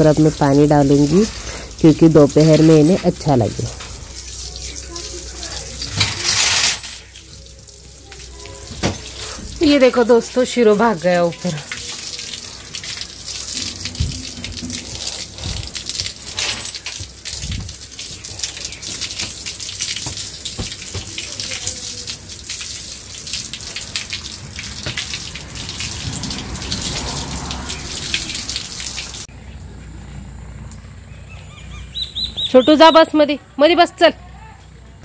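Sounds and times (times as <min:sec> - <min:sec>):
hose water splashing on concrete: 0:00.0 - 0:29.3.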